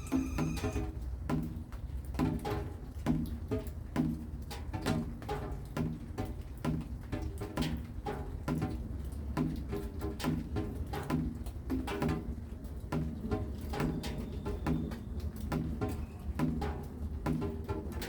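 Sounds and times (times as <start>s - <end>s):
low rain patter: 0.0s - 18.0s
rain drips plonking: 0.0s - 18.0s.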